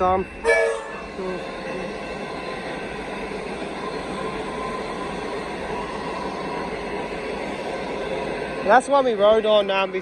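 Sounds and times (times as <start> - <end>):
train wheels rushing on track: 0.0 - 10.0.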